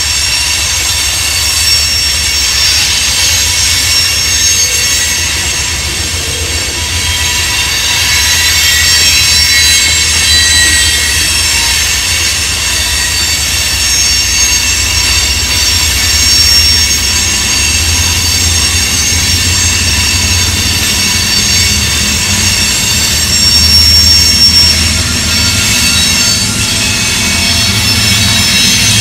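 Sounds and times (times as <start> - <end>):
high-pitched wheel flange squeal: 0.0 - 29.0
train wheels rumbling on rail: 0.0 - 29.0.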